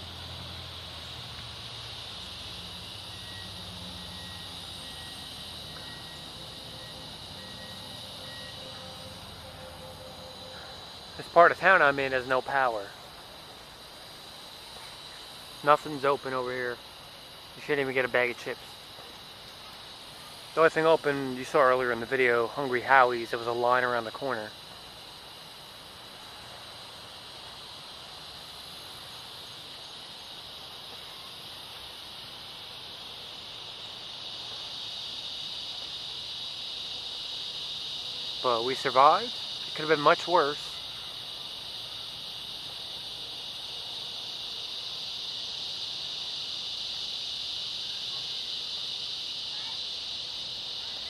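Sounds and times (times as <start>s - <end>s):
night insects droning: 0.0s - 51.0s.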